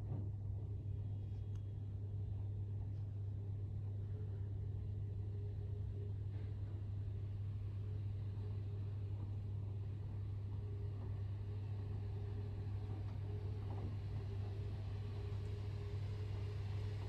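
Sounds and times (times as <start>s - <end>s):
low hum of room tone: 0.0s - 17.0s.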